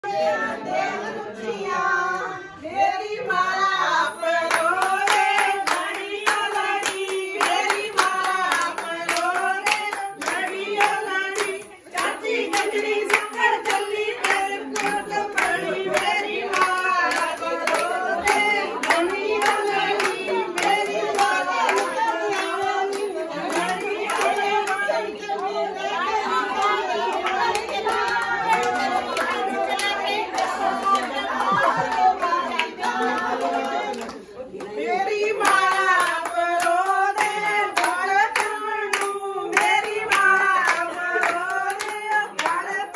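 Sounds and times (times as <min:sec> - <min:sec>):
women singing together: 0:00.0 - 0:42.9
rhythmic hand clapping: 0:03.2 - 0:42.9.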